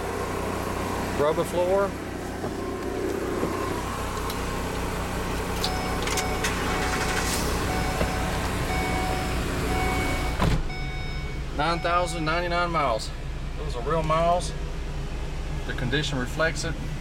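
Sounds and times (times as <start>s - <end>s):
truck engine and generator idling: 0.0s - 17.0s.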